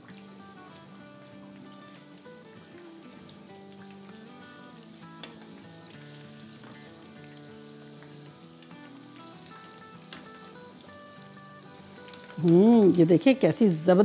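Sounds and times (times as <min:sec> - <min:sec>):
fish sizzling in hot oil: 0:00.0 - 0:14.0
soft background music: 0:00.0 - 0:14.0.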